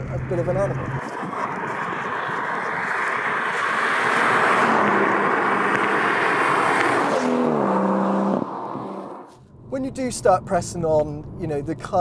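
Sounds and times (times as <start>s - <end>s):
car engine approaching: 0.0s - 12.0s.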